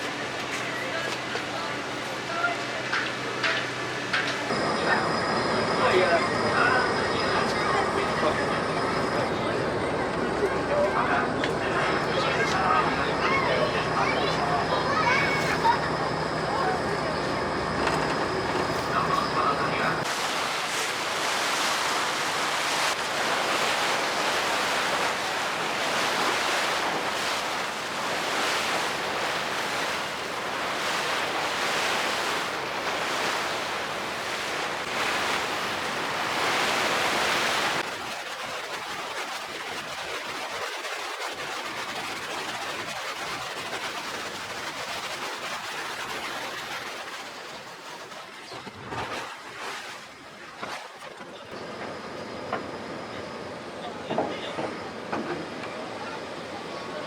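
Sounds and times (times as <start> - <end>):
sea water rushing: 0.0 - 57.0
wind: 0.0 - 57.0.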